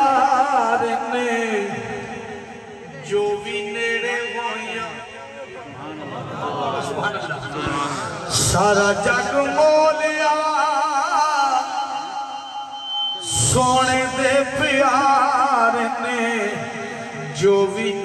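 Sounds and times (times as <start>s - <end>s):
man singing into a microphone: 0.0s - 5.3s, 7.6s - 18.0s.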